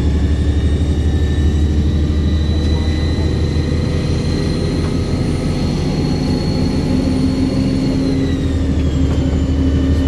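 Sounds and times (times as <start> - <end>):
diesel bus engine drone: 0.0 - 10.0.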